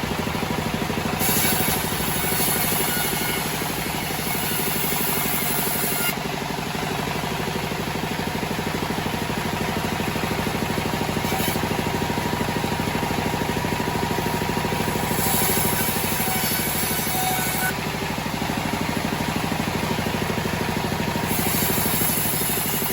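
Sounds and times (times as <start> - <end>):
bandsaw sawmill engine running: 0.0 - 22.9.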